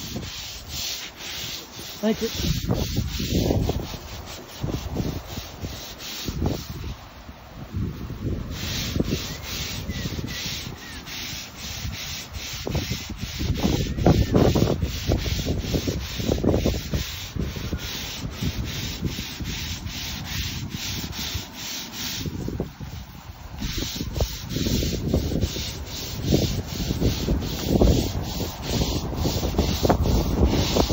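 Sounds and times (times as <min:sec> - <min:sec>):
brush scrubbing wet decking: 0:00.0 - 0:30.9.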